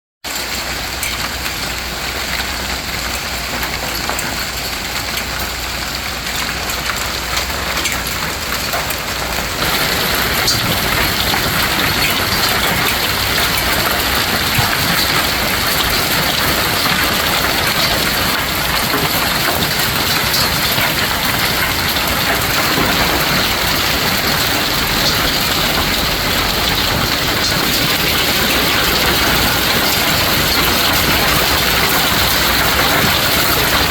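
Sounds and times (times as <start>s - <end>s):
hail and rain falling: 0.3s - 33.9s.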